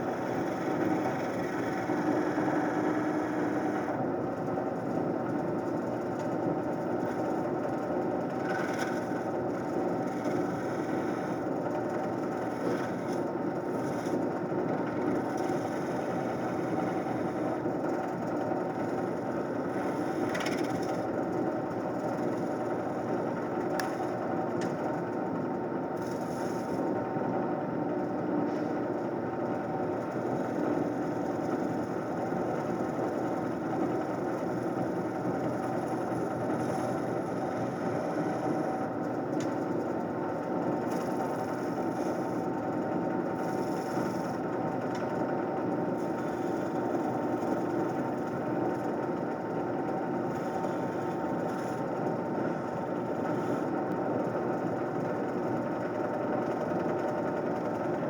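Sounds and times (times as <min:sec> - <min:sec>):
wood lathe motor humming: 0:00.0 - 0:27.3, 0:29.1 - 0:58.0.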